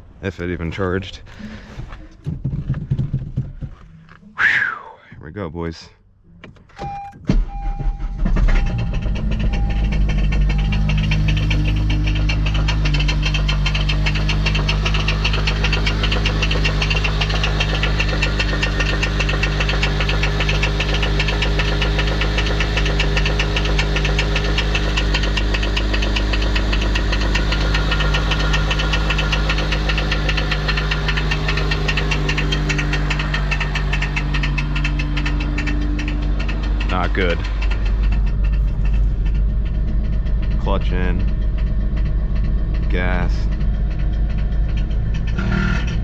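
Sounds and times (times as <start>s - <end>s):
car engine running: 0.0s - 46.0s
fast metallic rattle: 8.2s - 46.0s.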